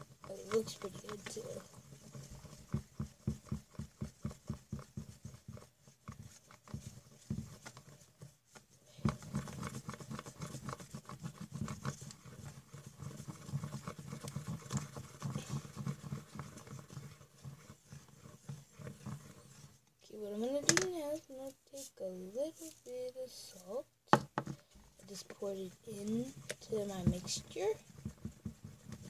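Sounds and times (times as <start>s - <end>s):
thick liquid being stirred: 0.0s - 29.0s.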